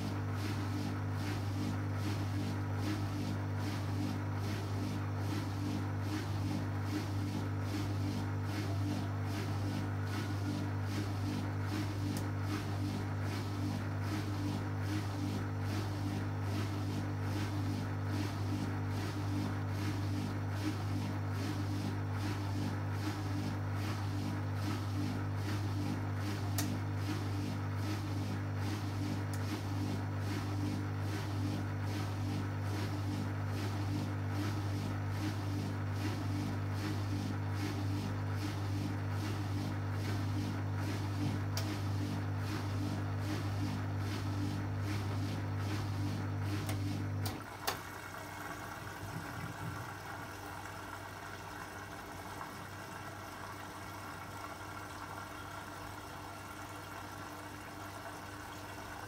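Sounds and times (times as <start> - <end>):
washing machine humming: 0.0 - 59.0.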